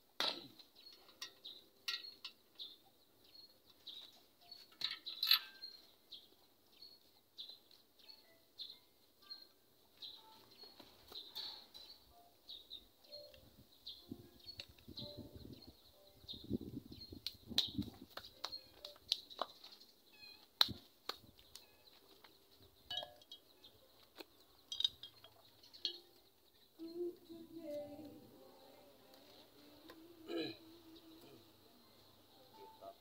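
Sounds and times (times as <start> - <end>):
small birds chirping: 0.5 - 33.0.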